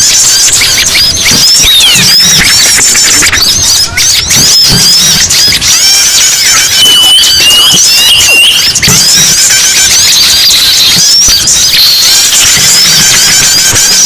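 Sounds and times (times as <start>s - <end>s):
high whistled note: 0.0s - 14.0s
songbirds chirping and twittering: 0.0s - 14.0s.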